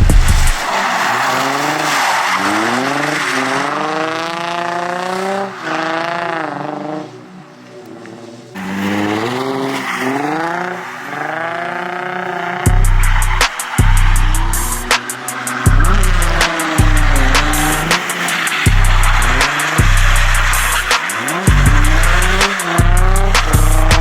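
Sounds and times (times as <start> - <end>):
tire squeal: 0.0 - 7.2, 7.9 - 24.0
car engine revving: 0.0 - 24.0.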